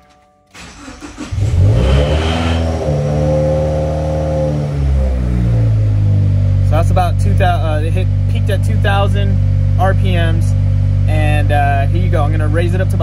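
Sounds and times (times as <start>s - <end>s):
car engine cranking and idling: 0.5s - 13.0s.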